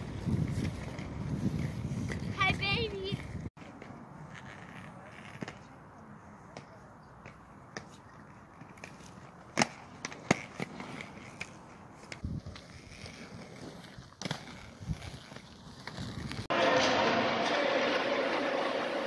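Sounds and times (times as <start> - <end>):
skate wheels rolling on asphalt: 0.0 - 19.0
skates clacking on ground: 0.0 - 19.0.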